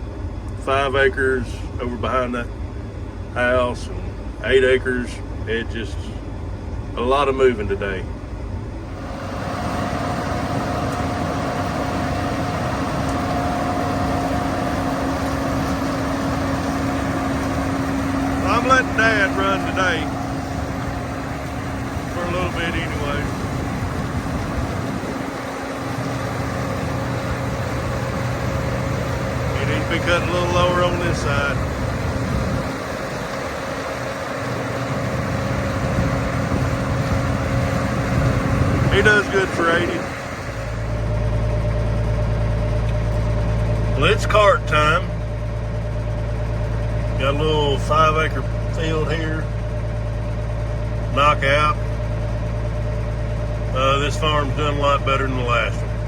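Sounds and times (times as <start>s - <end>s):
high whine: 0.0s - 56.0s
tractor engine running: 0.0s - 56.0s.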